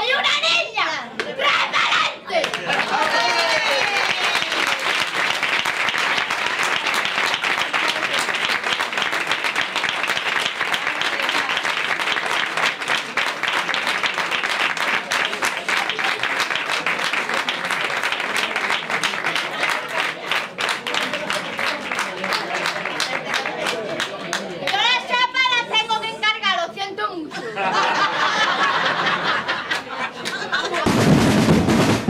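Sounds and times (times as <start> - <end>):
voices in crowd: 0.0 - 31.0
audience applauding: 2.4 - 24.8, 27.8 - 31.5.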